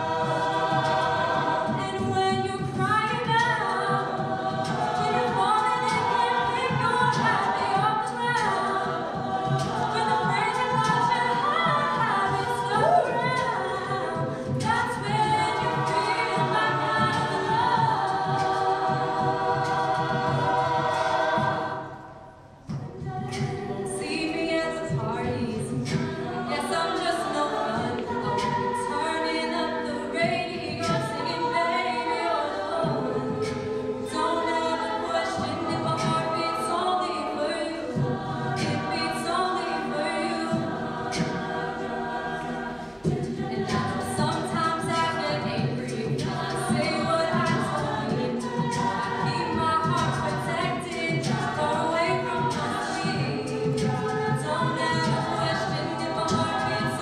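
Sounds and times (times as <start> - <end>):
female lead vocal: 0.0 - 20.3, 23.0 - 57.0
sung backing harmonies: 0.0 - 57.0.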